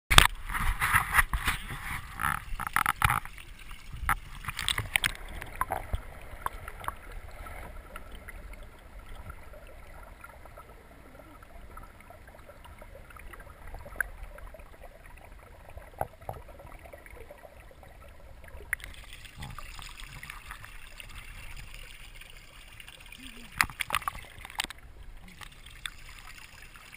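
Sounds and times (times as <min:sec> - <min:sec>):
faint underwater clicks: 0:00.1 - 0:26.9
water sloshing and splashing: 0:00.1 - 0:26.9.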